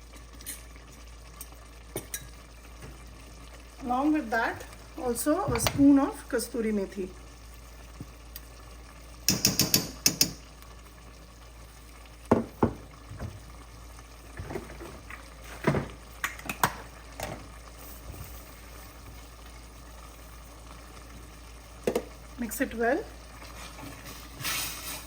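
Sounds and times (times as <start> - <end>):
curry bubbling: 0.0 - 25.0.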